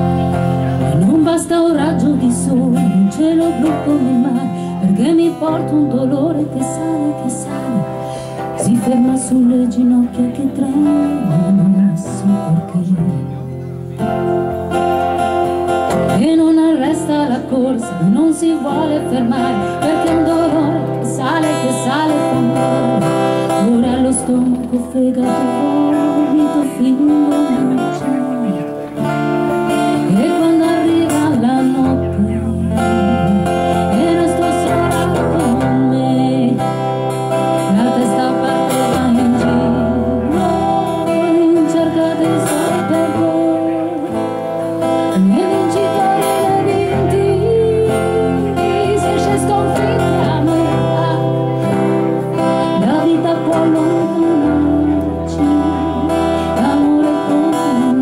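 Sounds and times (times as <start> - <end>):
woman singing: 0.0 - 13.4, 14.8 - 58.0
acoustic guitars strumming chords: 0.0 - 58.0.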